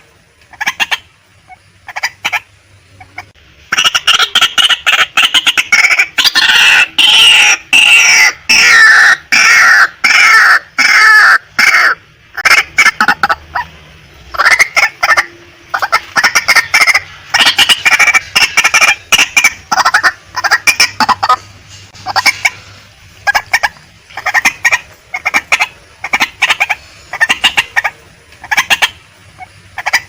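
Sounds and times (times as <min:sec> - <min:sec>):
waterhen calling: 0:00.0 - 0:30.0.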